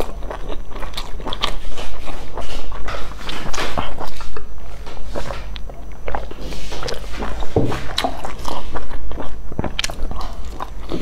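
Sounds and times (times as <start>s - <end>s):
chewing with wet smacks: 0.0s - 11.0s.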